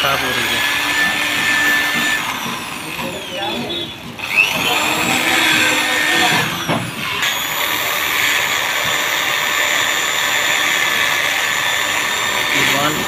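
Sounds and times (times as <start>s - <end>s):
electric drill running: 0.0s - 13.0s.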